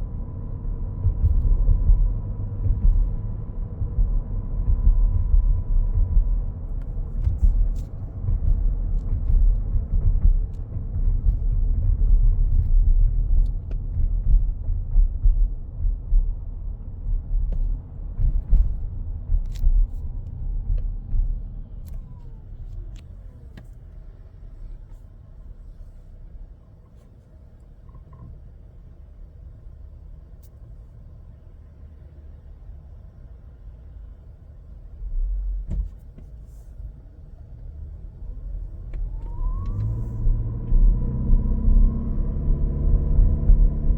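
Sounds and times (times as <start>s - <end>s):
road rumble in car cabin: 0.0s - 43.9s.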